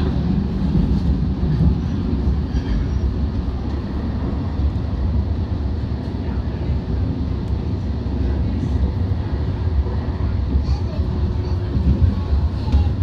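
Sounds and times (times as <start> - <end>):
light rail train rumbling: 0.0 - 13.0.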